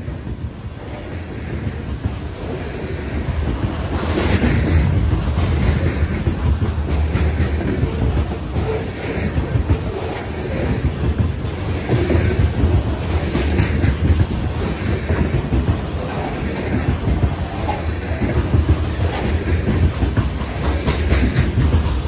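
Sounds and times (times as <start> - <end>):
steel wheels rumbling on rails: 0.0 - 22.0
wheels clicking over rail joints: 0.0 - 22.0.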